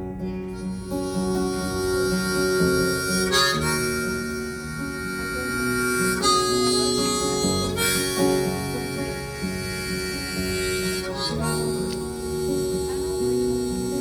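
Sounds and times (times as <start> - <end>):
harmonica playing lead: 0.0 - 14.0
strummed acoustic guitar: 0.0 - 14.0.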